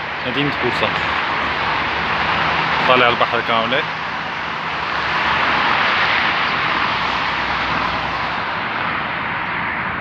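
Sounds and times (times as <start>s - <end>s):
outdoor rushing noise: 0.0s - 10.0s.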